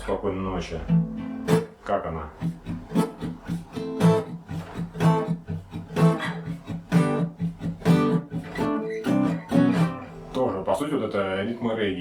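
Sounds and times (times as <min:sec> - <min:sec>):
acoustic guitar strummed: 0:00.8 - 0:11.6.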